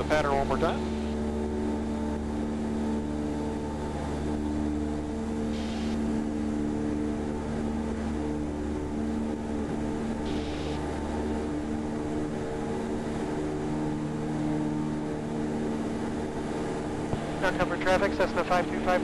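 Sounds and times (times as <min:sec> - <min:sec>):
small plane engine droning in cabin: 0:00.0 - 0:19.0.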